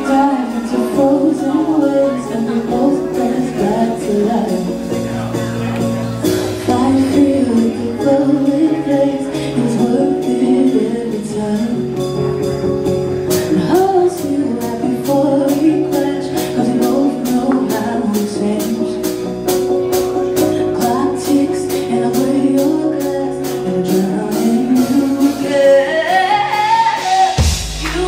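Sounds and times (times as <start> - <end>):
lead singer: 0.0 - 28.0
live band playing slow song: 0.0 - 28.0.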